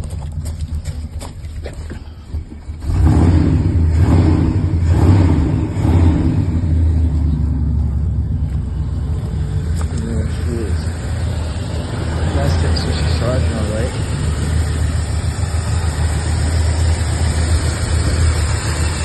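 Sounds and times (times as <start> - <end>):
truck engine revving: 2.7 - 19.0.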